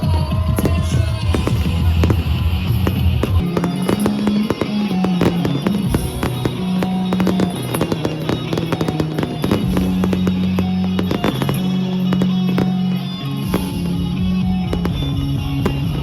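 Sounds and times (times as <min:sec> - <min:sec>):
fireworks bangs and crackles: 0:00.0 - 0:16.0
loud music with bass and guitar: 0:00.0 - 0:16.0.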